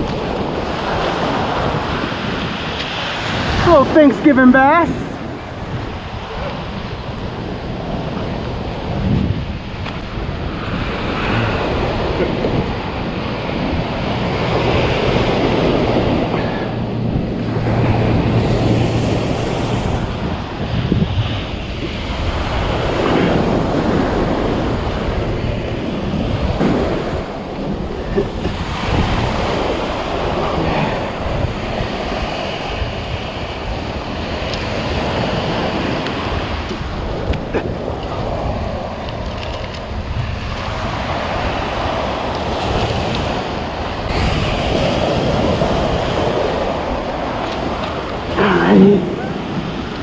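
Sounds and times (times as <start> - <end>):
surf washing on beach: 0.0 - 50.0
wind buffeting microphone: 0.0 - 50.0.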